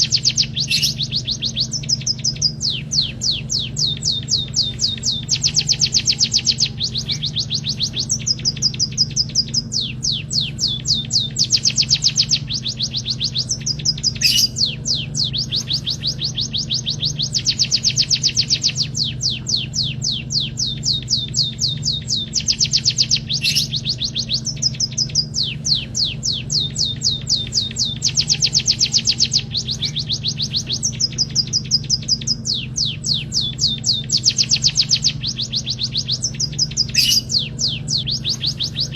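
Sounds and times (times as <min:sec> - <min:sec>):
small bird singing fast trills: 0:00.0 - 0:38.9
steady low hum: 0:00.0 - 0:38.9.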